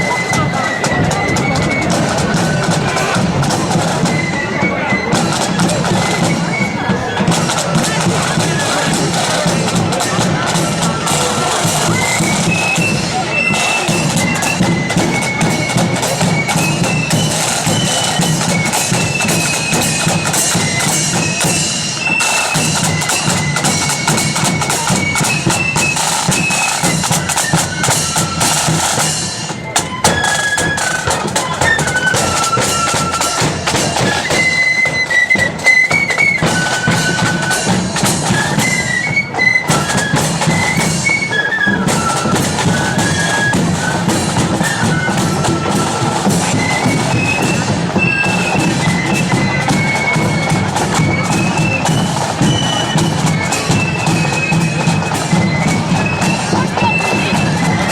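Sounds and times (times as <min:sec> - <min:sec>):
drums: 0:00.0 - 0:57.9
marching flute band playing: 0:00.0 - 0:57.9.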